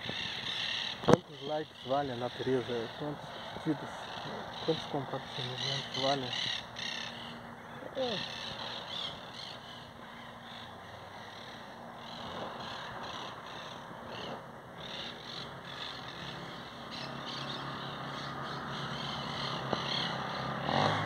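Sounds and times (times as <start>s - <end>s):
parakeets chattering: 0.0s - 21.0s.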